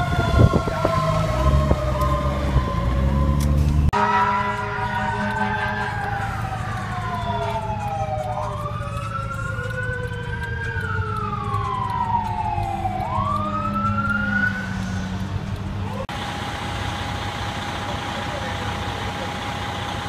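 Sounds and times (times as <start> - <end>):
fire truck siren wailing: 0.0 - 20.0
low engine rumble: 0.0 - 20.0
lower siren tone winding down: 0.0 - 20.0.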